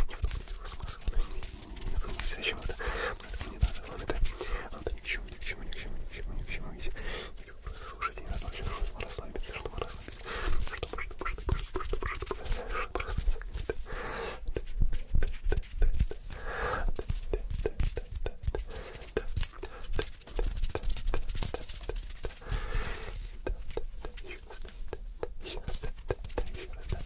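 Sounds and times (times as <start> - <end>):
crisp hand taps and rubs: 0.0 - 27.0
person whispering: 0.0 - 27.0.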